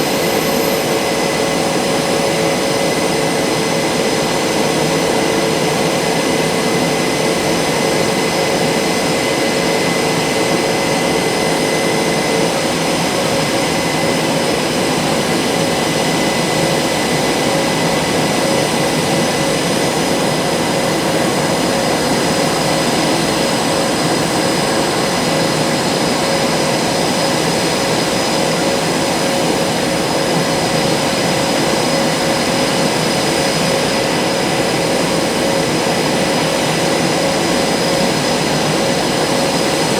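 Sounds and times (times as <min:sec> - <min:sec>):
high-pitched jet whines: 0:00.0 - 0:39.9
jet engine turbine rush: 0:00.0 - 0:39.9.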